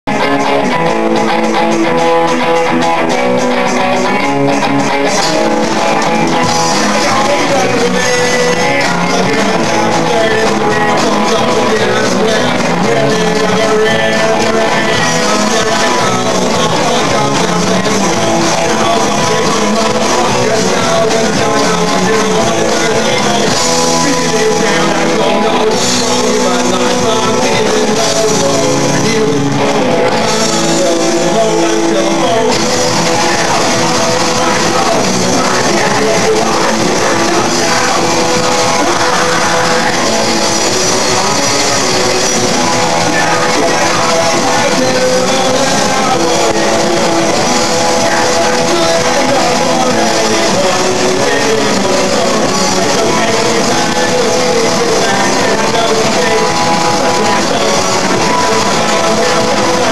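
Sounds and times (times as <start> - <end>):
live band playing: 0.1 - 59.9.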